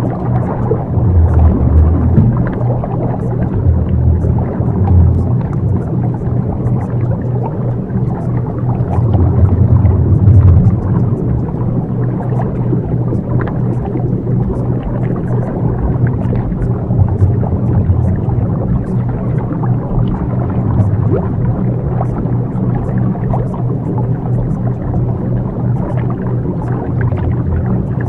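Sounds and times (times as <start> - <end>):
low hum of held tones: 0.0 - 28.0
low wavering ambient drone: 0.0 - 28.0
rumbling noisy background: 0.0 - 28.0.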